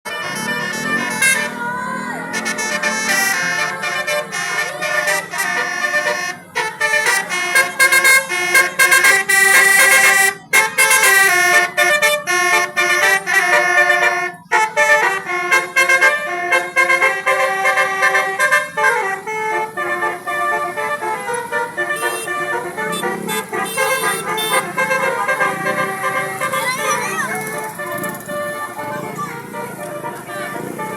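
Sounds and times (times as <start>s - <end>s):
multi-tone air horn jingle: 0.0s - 30.9s.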